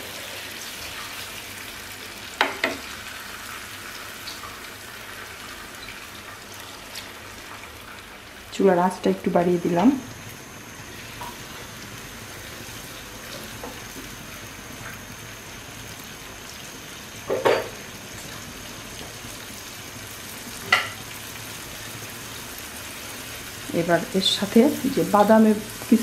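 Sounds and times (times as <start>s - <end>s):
spices sizzling in oil: 0.0s - 26.0s.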